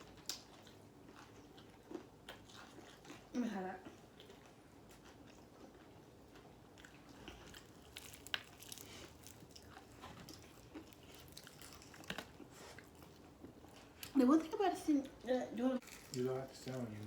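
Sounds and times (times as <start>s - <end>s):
chewing crispy fried chicken: 0.0s - 14.2s, 15.8s - 17.0s.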